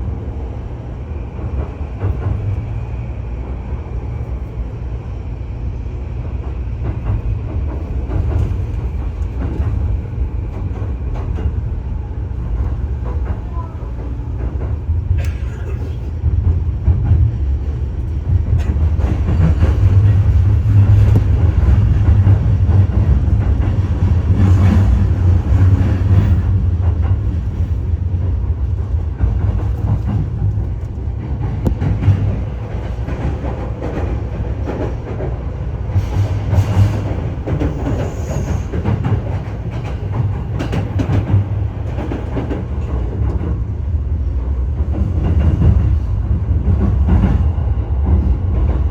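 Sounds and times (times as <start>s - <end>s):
train rumbling on rails: 0.0s - 48.9s.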